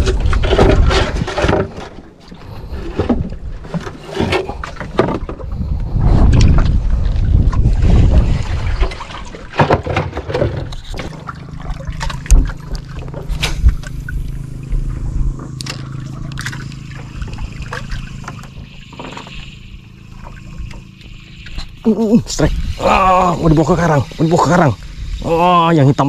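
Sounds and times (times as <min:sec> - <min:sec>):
steady low hum: 0:00.0 - 0:26.0
water sloshing and trickling: 0:00.0 - 0:26.0.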